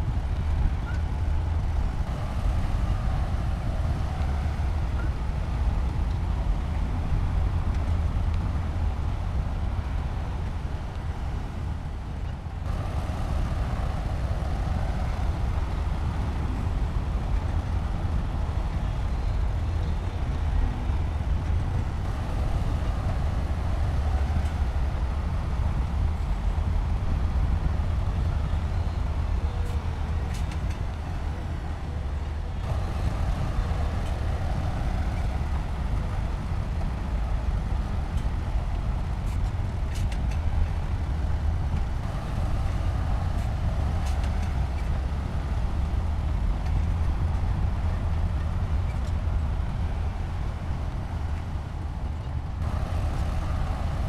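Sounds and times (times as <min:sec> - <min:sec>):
heavy diesel engine rumbling: 0:00.0 - 0:54.0.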